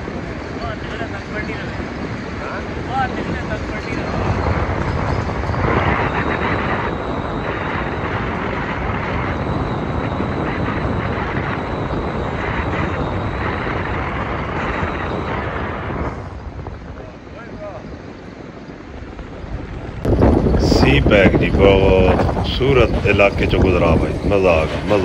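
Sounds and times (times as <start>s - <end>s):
faint high whine: 0.0s - 25.0s
wind and road noise roar: 0.0s - 25.0s.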